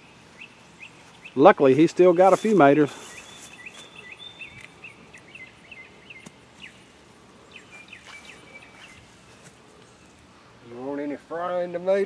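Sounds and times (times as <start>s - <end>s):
birds chirping: 0.0s - 10.8s
outdoor background hiss: 0.0s - 12.0s.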